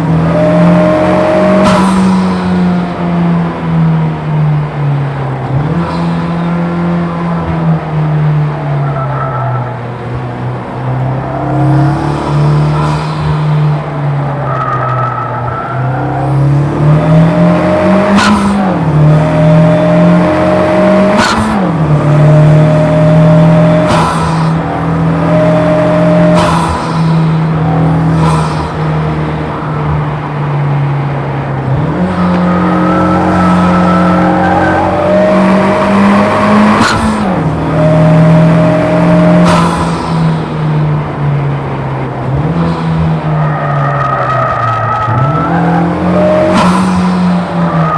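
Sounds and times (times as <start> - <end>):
car engine revving with upshifts: 0.0 - 47.9.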